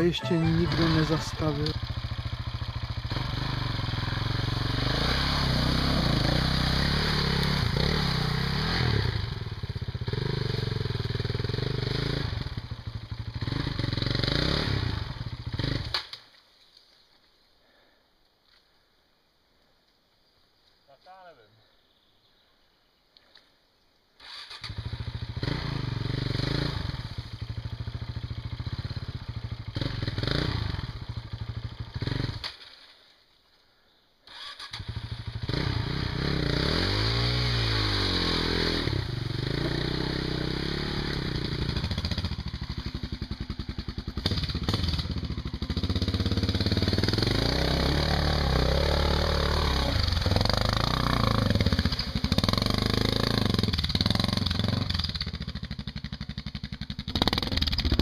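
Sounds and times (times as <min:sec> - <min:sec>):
motorcycle engine revving: 0:00.7 - 0:16.0, 0:24.2 - 0:32.6, 0:34.3 - 0:58.0.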